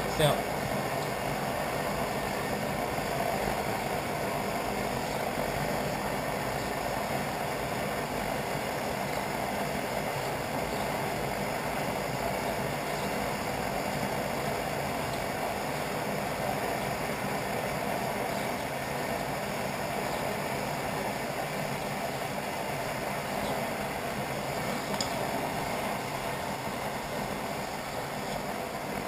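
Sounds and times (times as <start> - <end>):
pressure stove burner rushing: 0.0 - 29.0.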